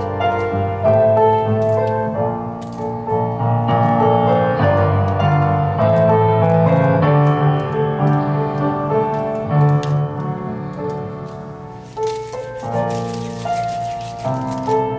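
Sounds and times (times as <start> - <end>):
soft slow piano music: 0.0 - 14.9.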